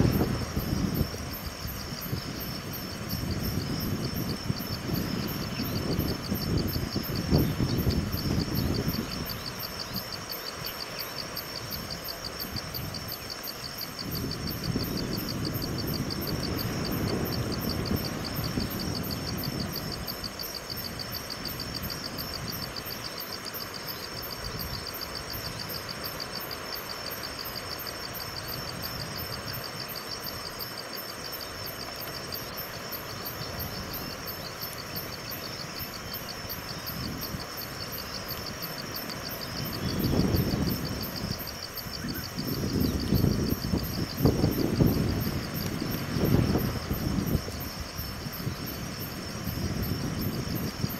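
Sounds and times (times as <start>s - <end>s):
insects chirping in a pulse: 0.0s - 50.9s.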